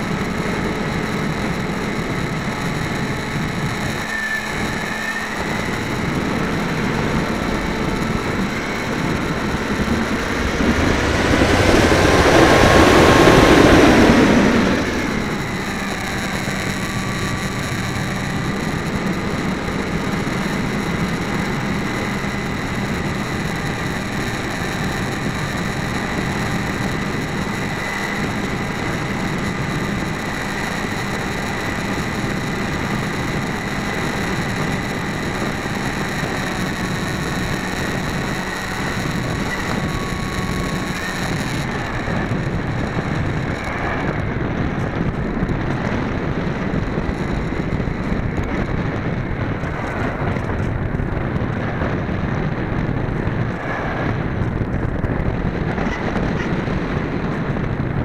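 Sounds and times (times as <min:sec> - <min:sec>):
electric motor and propeller whining: 0:00.0 - 0:58.0
wind rushing over microphone: 0:00.0 - 0:58.0.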